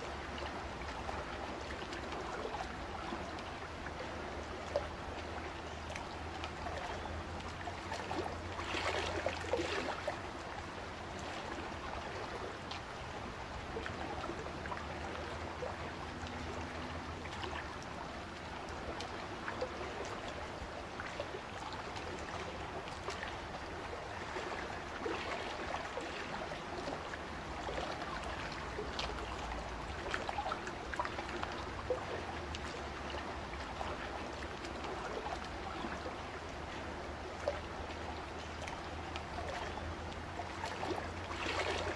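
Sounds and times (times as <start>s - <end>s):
small waves lapping on shore: 0.0s - 41.9s.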